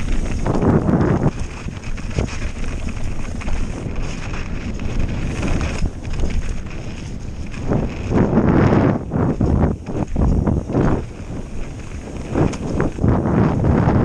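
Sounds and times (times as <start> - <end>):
tyres crunching over dirt and stones: 0.0 - 13.1
bike knocks and rattles: 0.0 - 14.0
wind buffeting microphone: 0.0 - 14.0.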